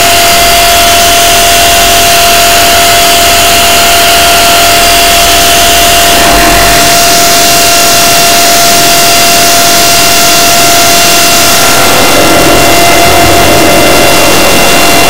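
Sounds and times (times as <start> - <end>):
distorted electronic noise: 0.0 - 15.0
steady high tones: 0.0 - 15.0.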